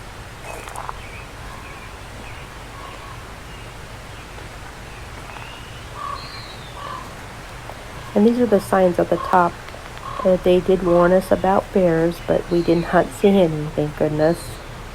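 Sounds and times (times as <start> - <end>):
low outdoor background noise: 0.0 - 14.9
wild birds chirping: 0.0 - 14.9.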